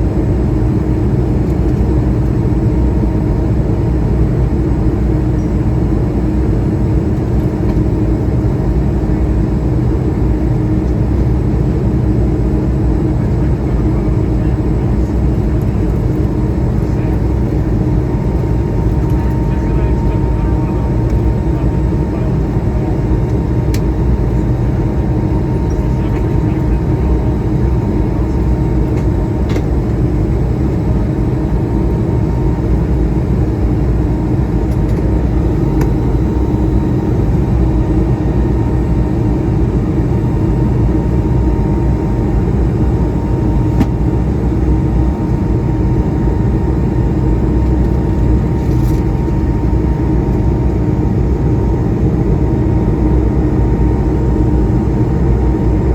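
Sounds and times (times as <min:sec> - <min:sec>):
aircraft cabin rumble: 0:00.0 - 0:55.9
faint steady whine: 0:03.6 - 0:55.9.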